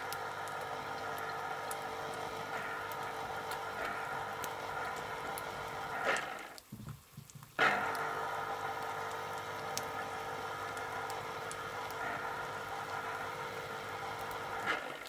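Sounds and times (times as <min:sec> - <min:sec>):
electric juicer motor running: 0:00.0 - 0:06.6, 0:07.6 - 0:15.0
egg frying crackles: 0:00.0 - 0:15.0.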